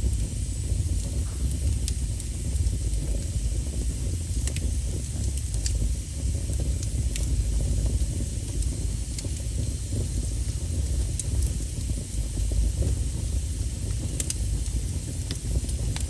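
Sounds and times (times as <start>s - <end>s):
fire crackling pops: 0.0s - 16.0s
wood fire rumble and hiss: 0.0s - 16.0s.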